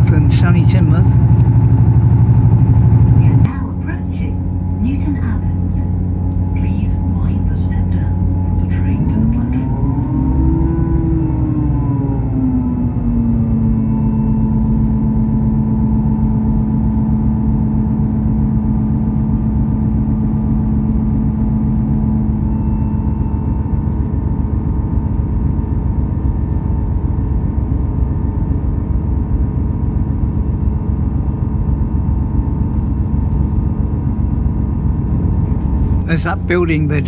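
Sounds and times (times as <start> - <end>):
constant hum: 0.0 - 37.0
train engine and wheels rumbling: 0.0 - 37.0.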